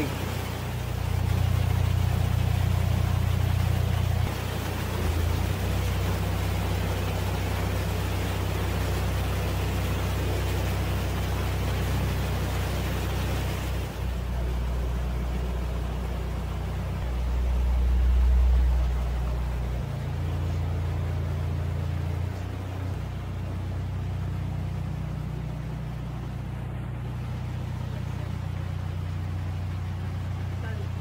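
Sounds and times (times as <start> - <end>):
boat diesel engine running: 0.0 - 31.0.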